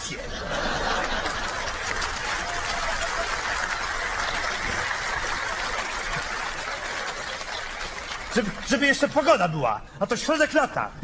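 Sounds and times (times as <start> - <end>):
audience applauding: 0.4 - 9.4.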